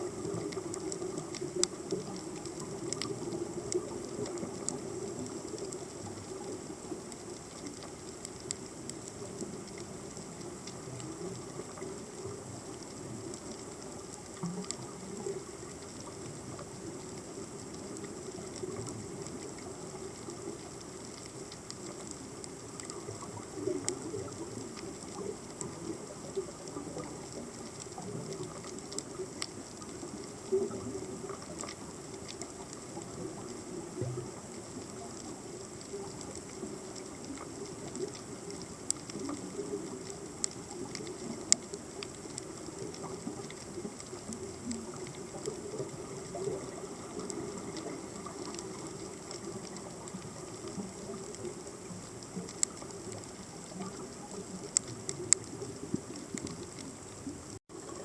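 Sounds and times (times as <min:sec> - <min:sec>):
sharp underwater clicks and pops: 0:00.0 - 0:57.6
underwater low rushing noise: 0:00.0 - 0:58.0.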